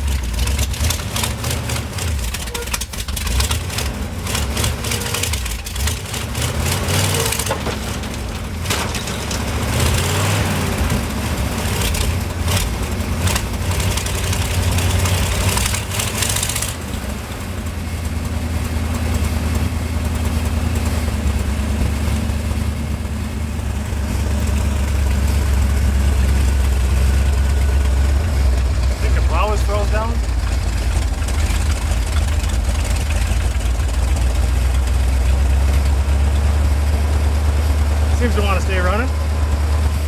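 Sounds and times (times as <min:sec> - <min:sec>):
truck engine revving and idling: 0:00.0 - 0:40.0.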